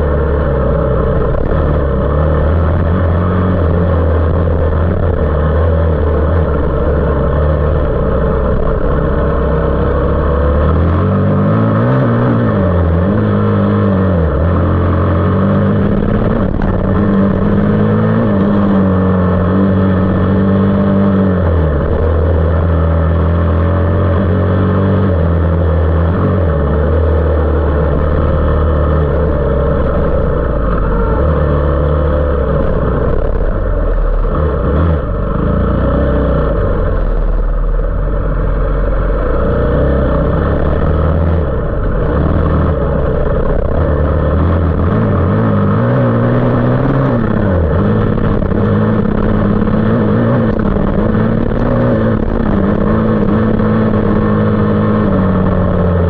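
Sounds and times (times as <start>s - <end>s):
off-road motorcycle engine revving: 0.0s - 56.0s.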